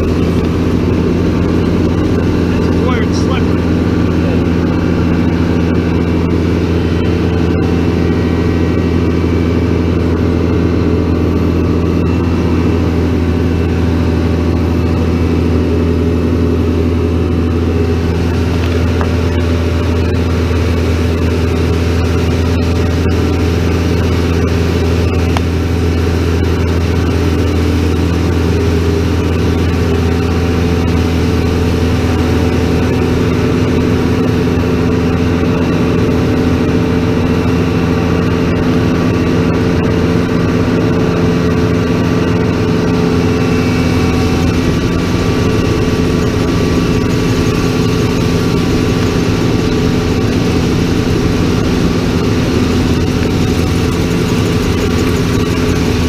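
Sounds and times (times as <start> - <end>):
harvester engine drone: 0.0 - 56.0.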